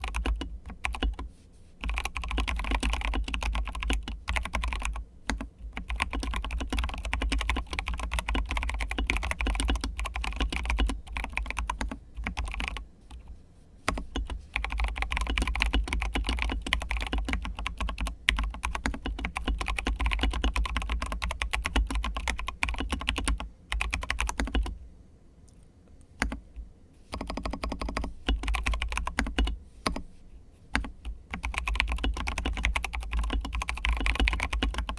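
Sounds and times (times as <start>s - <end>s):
fast typing on mechanical keyboard: 0.0s - 13.3s, 13.9s - 24.8s, 26.2s - 26.4s, 27.2s - 30.0s, 30.7s - 34.9s.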